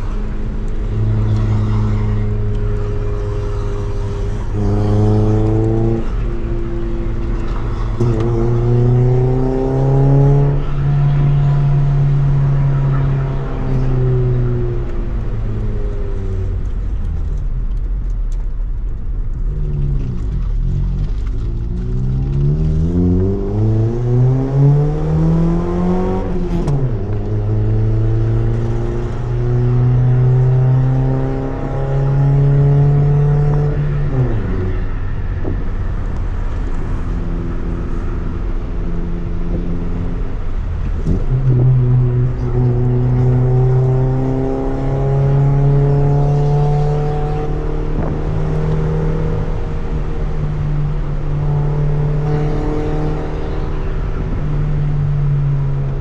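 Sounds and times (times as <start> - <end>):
car engine revving uphill: 0.0 - 56.0.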